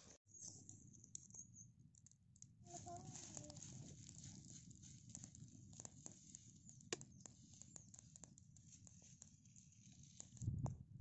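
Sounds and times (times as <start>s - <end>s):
fire crackling: 0.3s - 11.0s
fire popping: 0.3s - 11.0s.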